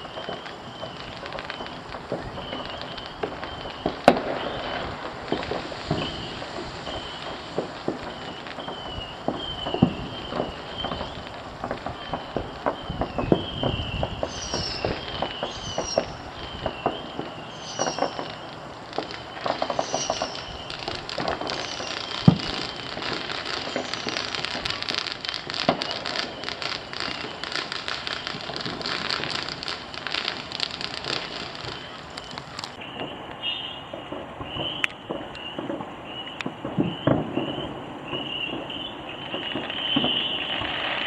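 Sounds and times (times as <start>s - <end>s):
loud firework bang: 0.0s - 18.4s, 19.0s - 41.0s
dense fireworks crackling: 0.0s - 41.0s
fireworks popping: 0.0s - 41.0s.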